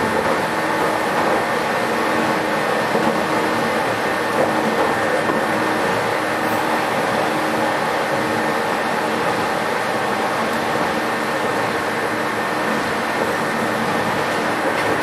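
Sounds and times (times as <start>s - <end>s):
electric train cabin hum: 0.0s - 15.0s.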